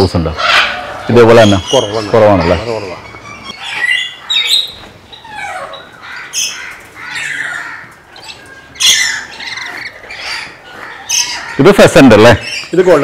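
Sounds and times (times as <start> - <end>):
parrots squawking: 0.3 - 13.0.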